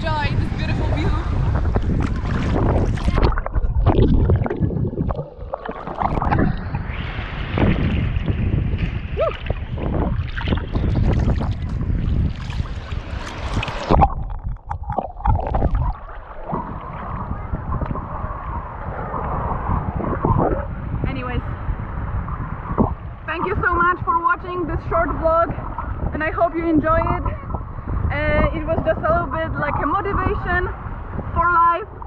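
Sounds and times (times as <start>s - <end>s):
ocean water washing: 0.0s - 32.0s
wind buffeting microphone: 0.0s - 32.0s.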